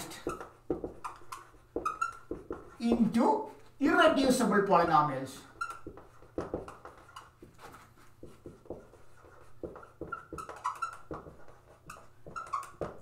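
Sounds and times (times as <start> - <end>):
marker squeaks: 0.0 - 4.4, 5.4 - 13.0
marker pen writing on a whiteboard: 0.0 - 13.0.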